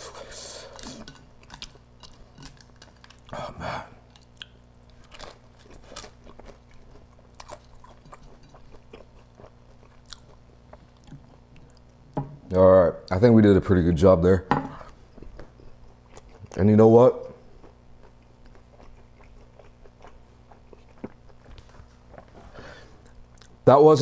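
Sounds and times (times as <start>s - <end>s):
person chewing: 0.0s - 12.0s, 14.8s - 16.6s, 17.3s - 23.6s.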